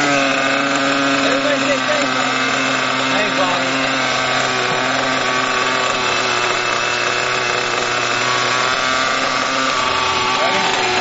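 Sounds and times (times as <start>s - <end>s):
model helicopter engine idling: 0.0s - 11.0s.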